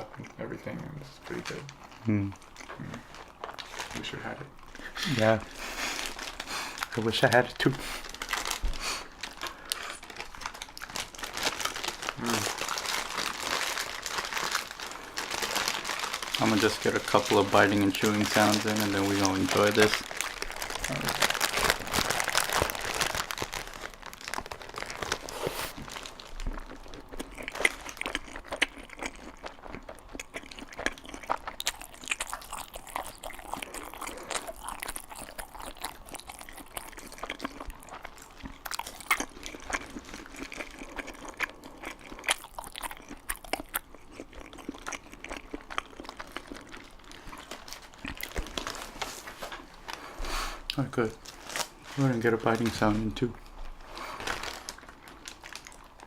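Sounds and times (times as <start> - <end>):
close-miked chewing: 4.6 - 51.7, 53.3 - 56.0.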